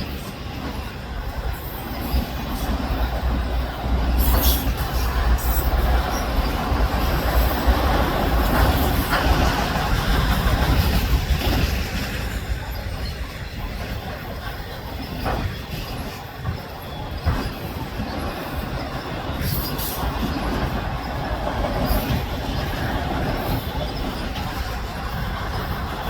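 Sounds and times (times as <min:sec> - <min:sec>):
train clanks: 0:00.0 - 0:26.0
train wheels rumbling on rails: 0:00.0 - 0:26.0.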